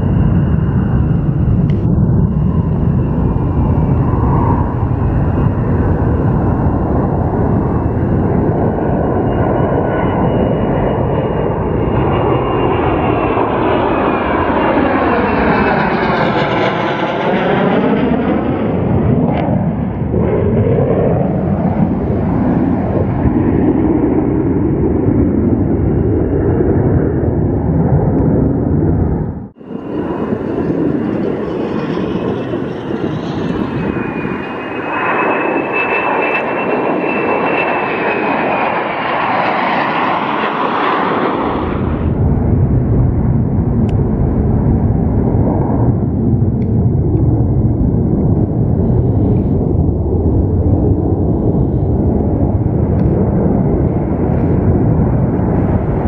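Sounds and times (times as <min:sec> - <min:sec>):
high jet whine: 0:00.0 - 0:56.0
jet engines roaring: 0:00.0 - 0:56.0.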